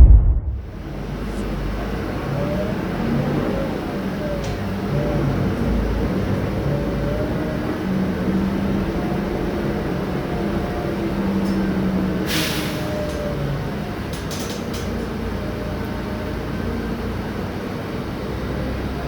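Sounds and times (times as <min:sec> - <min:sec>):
bus diesel engine droning: 0:00.7 - 0:19.0.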